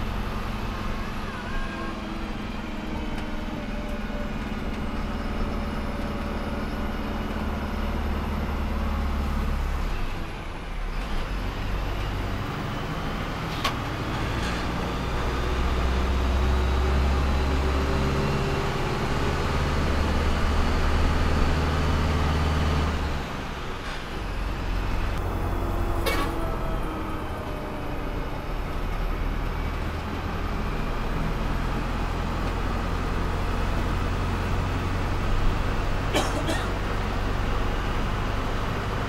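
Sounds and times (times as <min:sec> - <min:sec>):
bus engine and road noise: 0:00.0 - 0:39.0.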